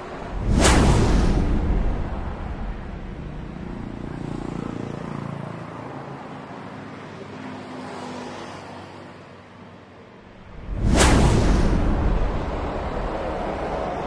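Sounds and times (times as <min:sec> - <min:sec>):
steady road noise: 0:00.0 - 0:14.0
vehicles passing by: 0:00.0 - 0:14.0.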